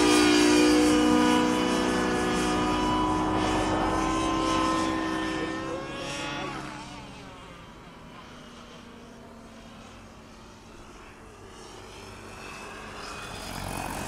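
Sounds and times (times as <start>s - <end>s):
model helicopter whine: 0.0s - 14.0s.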